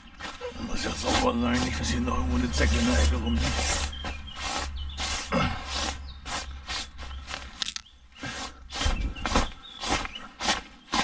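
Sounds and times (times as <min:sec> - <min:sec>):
hand brushing tent floor: 0:00.0 - 0:11.0.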